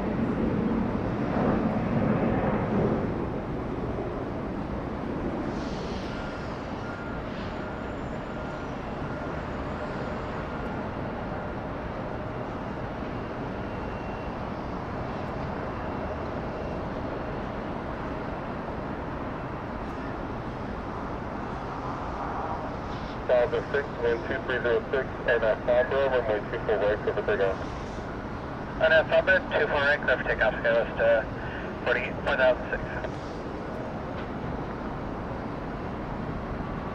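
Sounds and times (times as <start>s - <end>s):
jet engines rushing and whining: 0.0s - 36.9s.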